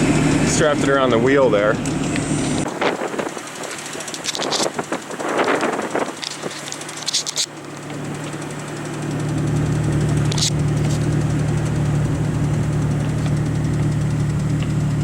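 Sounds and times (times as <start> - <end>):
car engine under load: 0.0 - 15.0.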